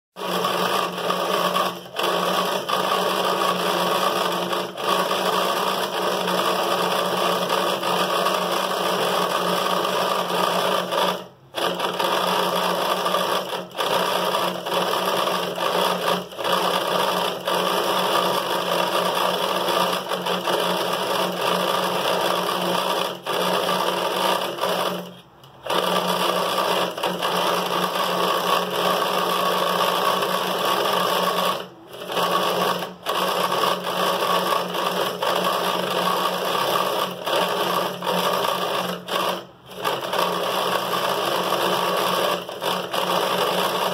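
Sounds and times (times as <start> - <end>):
small electric motor running: 0.2 - 43.9.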